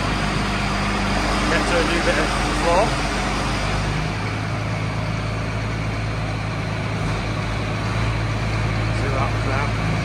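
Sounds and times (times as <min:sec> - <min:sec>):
tractor diesel engines idling: 0:00.0 - 0:10.0.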